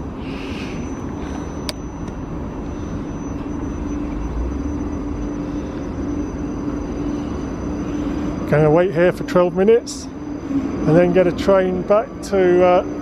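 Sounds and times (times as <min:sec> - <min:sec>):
train motor hum: 0:00.0 - 0:13.0
train rumble: 0:00.0 - 0:13.0.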